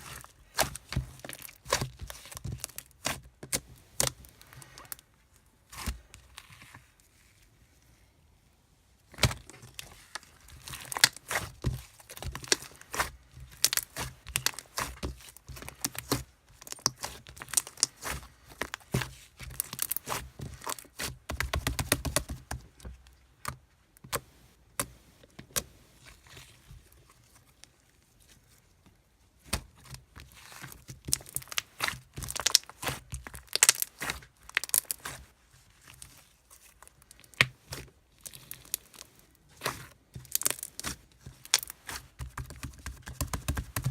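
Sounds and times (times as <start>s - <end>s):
thin material crinkling and tearing: 0.0s - 7.8s, 9.1s - 23.2s, 25.9s - 43.9s.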